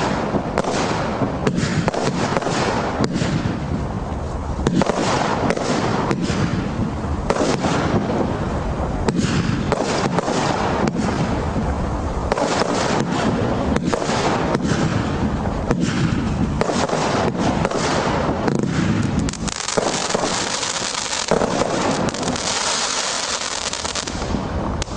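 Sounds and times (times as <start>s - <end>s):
fireworks bangs: 0.0s - 24.9s
fireworks crackling: 0.0s - 24.9s.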